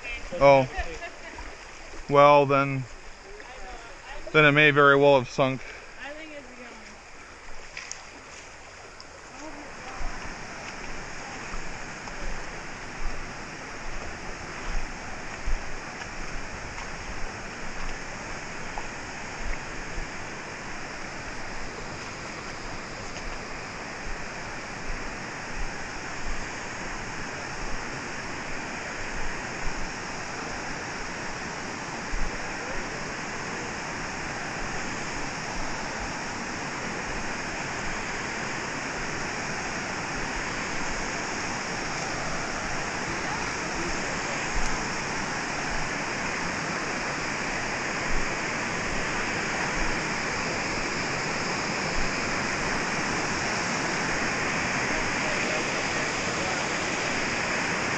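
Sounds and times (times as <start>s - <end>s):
creek water rushing over rocks: 0.0s - 57.9s.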